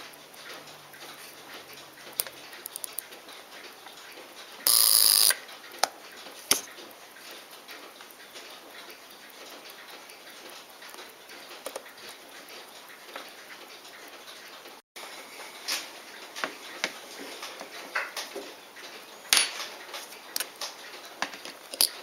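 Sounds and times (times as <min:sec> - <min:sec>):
faint metal ticks and clicks: 0:00.0 - 0:14.8, 0:15.5 - 0:22.0.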